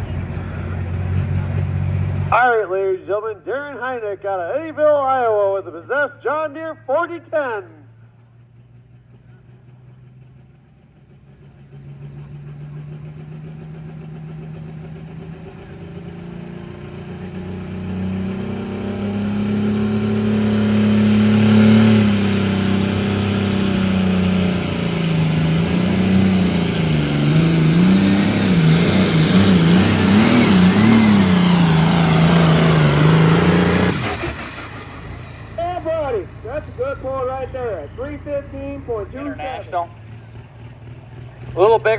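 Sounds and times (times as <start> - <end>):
tractor engine under full load: 0.0 - 41.9.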